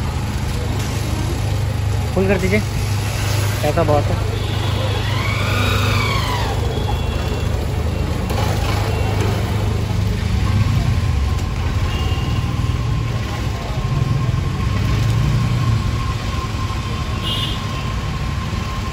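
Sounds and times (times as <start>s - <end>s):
vehicle engines idling: 0.0s - 18.9s.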